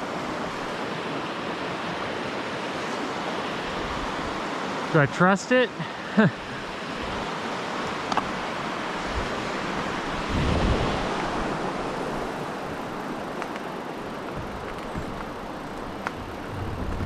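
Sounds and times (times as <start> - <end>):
fast-flowing stream water: 0.0 - 17.0.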